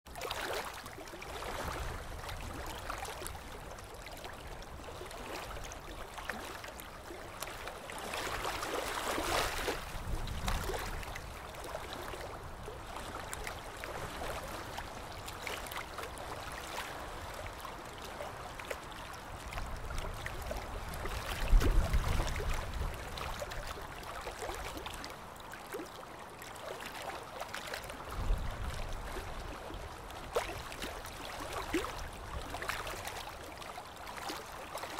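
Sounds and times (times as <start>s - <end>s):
water lapping around ship: 0.1s - 34.9s.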